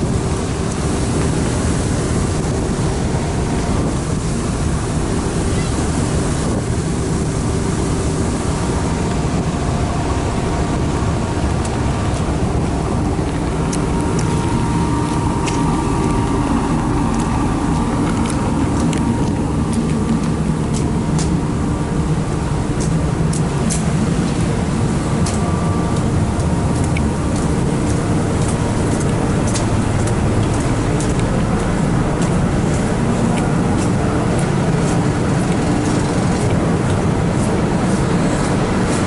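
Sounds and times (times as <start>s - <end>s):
ship engines droning: 0.0s - 39.0s
wind and water rushing: 0.0s - 39.0s.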